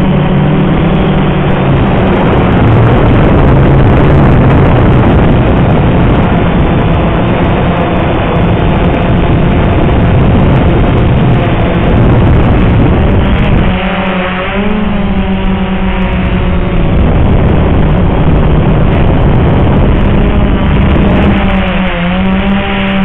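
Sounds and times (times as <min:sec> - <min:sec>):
quadcopter propellers humming: 0:00.0 - 0:23.0
wind rush on microphone: 0:00.0 - 0:23.0.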